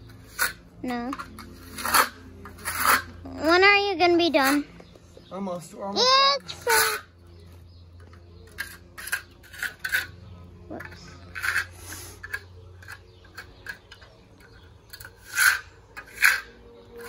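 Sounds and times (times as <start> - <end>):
trowel scraping mortar: 0.0 - 4.7, 6.4 - 7.0, 8.4 - 17.0.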